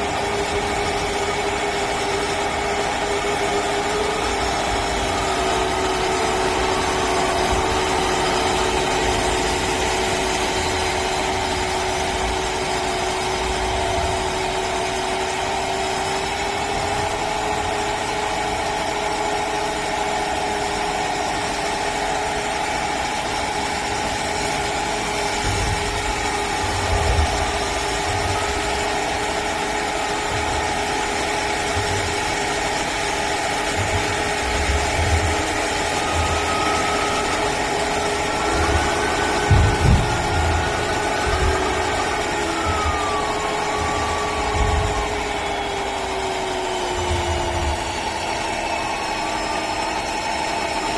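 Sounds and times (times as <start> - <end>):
simulated truck engine drone: 0.0 - 50.9.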